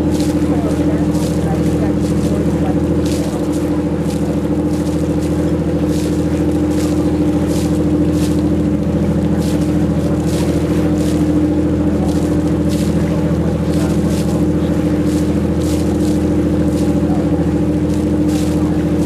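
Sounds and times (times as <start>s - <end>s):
boat engine drone: 0.0s - 19.0s.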